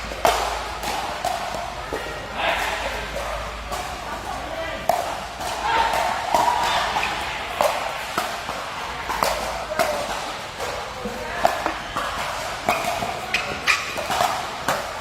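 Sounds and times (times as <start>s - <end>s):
background voices and chatter: 0.0s - 15.0s.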